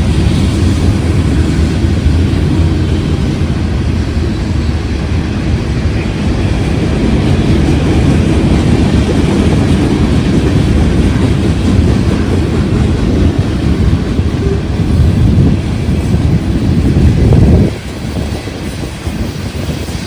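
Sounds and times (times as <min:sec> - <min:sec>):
train rumbling past on rails: 0:00.0 - 0:20.0.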